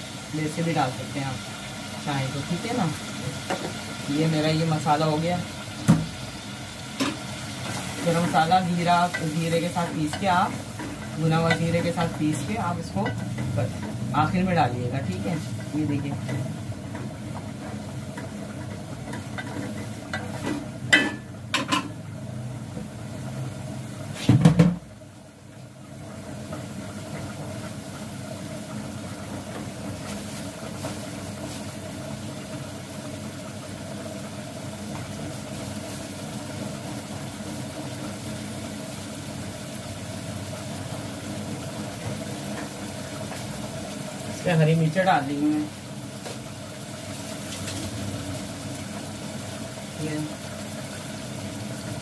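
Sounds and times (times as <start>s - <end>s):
gas burner noise: 0.0s - 52.0s
meat sizzling in a pot: 0.0s - 52.0s.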